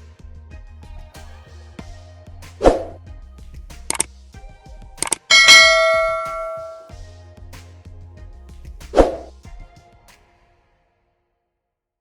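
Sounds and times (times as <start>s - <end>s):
background music: 0.0s - 11.2s.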